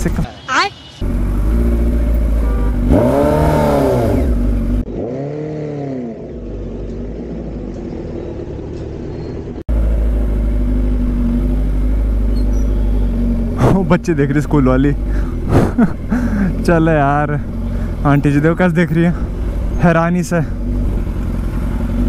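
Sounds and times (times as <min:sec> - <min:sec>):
motorcycle engine revving: 0:01.0 - 0:22.0.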